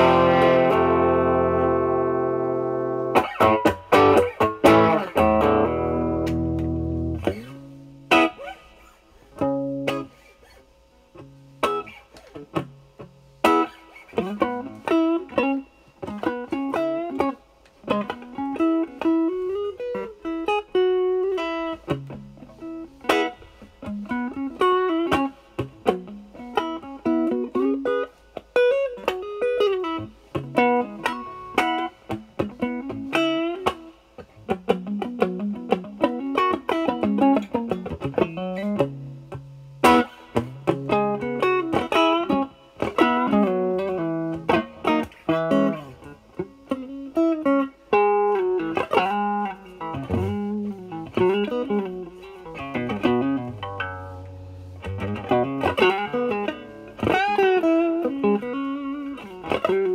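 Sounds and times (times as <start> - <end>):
distorted electric guitar licks: 0.0 - 59.9.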